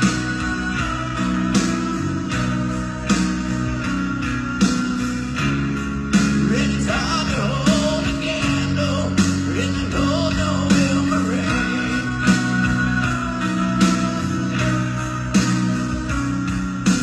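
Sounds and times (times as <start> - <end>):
drums: 0.0 - 17.0
guitar: 0.0 - 17.0
person singing: 0.0 - 17.0.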